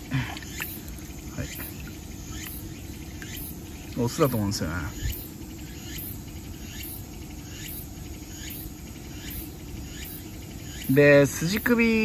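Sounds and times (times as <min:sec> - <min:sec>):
insect calling: 0:00.0 - 0:12.0
low background noise: 0:00.0 - 0:12.0.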